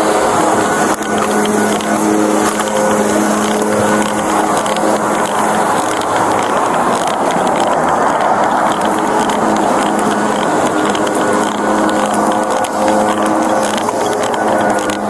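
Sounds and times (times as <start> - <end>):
car passing: 0.0 - 15.0
engine hum: 0.0 - 15.0.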